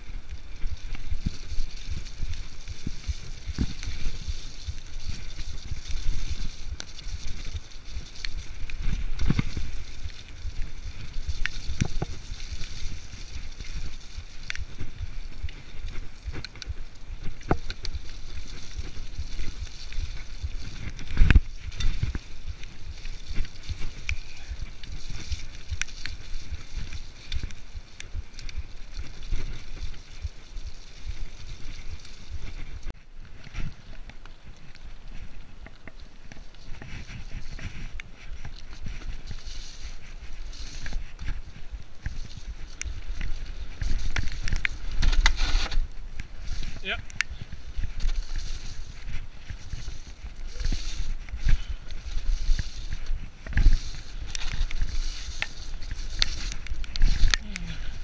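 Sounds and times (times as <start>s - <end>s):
bike knocking and rattling: 0.0s - 58.0s
tyres rumbling on dirt trail: 0.0s - 58.0s
wind on microphone: 0.0s - 58.0s.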